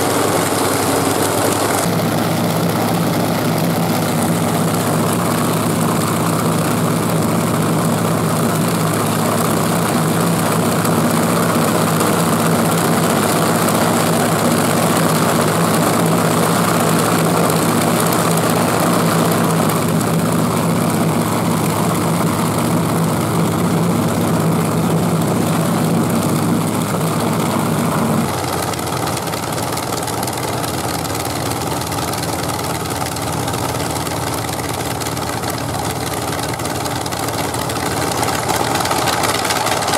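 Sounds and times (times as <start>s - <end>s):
radial aero engine running: 0.0s - 39.9s.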